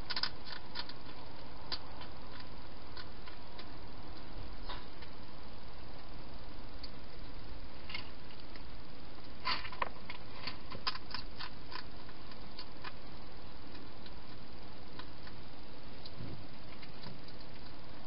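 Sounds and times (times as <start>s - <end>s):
hedgehog chewing and crunching: 0.0s - 18.0s.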